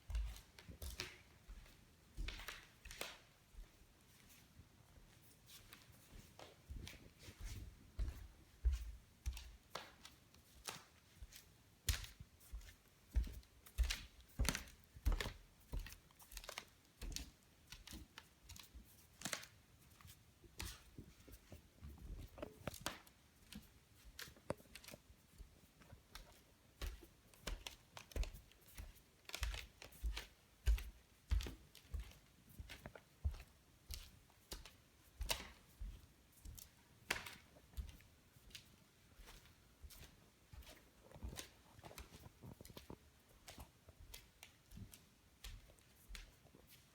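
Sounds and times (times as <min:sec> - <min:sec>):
floorboards clicking underfoot: 0:00.0 - 0:46.9.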